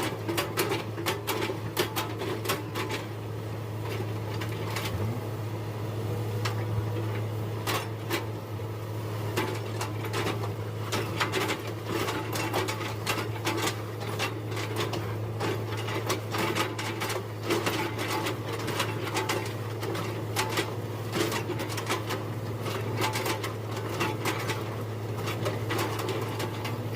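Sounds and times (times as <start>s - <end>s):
excavator engine humming: 0.0s - 26.9s.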